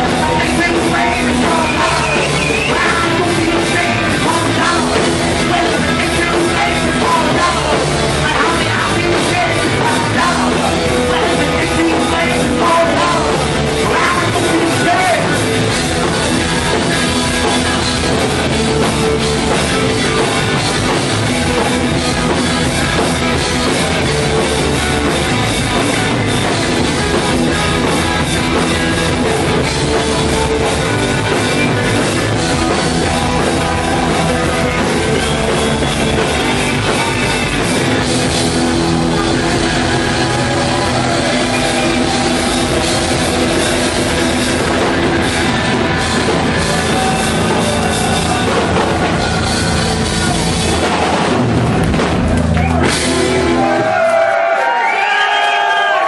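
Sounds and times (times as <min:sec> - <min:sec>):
punk rock band playing live: 0:00.0 - 0:56.0.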